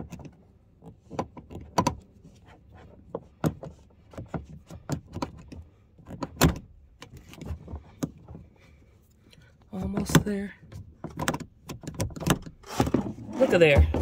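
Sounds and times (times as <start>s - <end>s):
seatbelt strap knocks and rustling: 0.0s - 8.6s, 9.8s - 14.0s.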